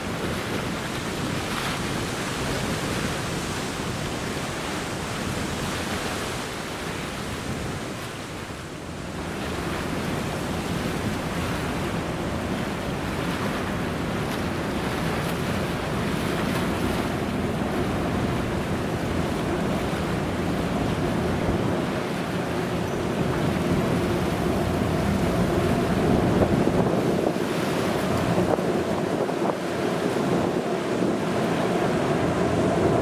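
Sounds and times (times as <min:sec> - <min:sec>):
river water lapping: 0:00.0 - 0:33.0
wind buffeting microphone: 0:00.0 - 0:33.0.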